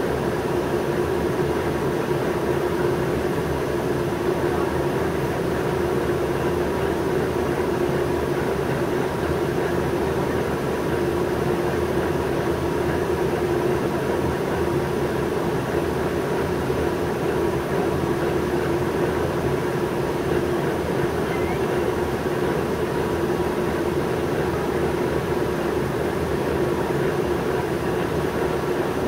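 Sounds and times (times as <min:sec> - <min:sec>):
bus engine idling: 0:00.2 - 0:29.0.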